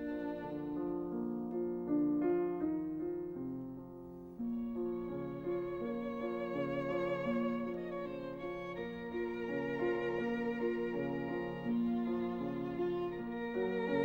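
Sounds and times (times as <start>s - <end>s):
slow violin and piano piece: 0.0s - 14.0s.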